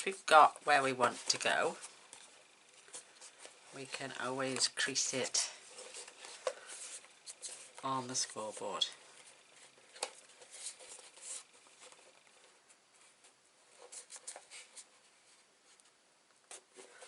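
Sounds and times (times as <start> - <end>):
cardstock rustling and scraping: 0.0 - 15.9, 16.5 - 17.0.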